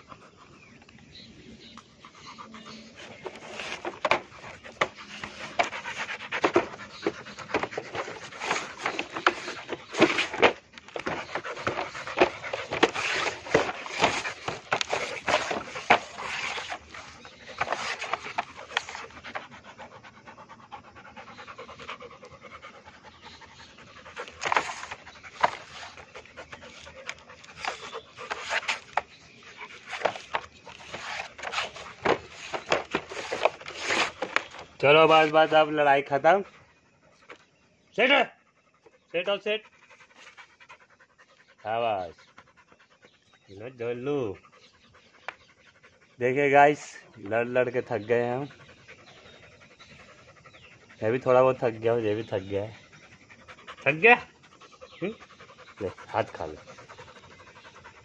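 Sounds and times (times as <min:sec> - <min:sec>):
dog panting hard: 0:00.0 - 0:01.3, 0:01.9 - 0:58.0.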